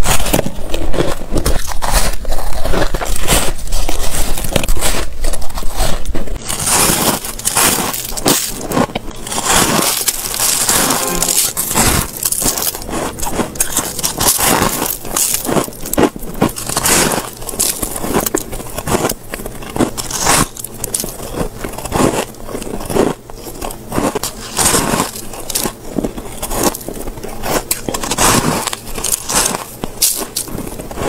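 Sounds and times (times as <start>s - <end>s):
ice crunching while chewed: 0.0s - 31.0s.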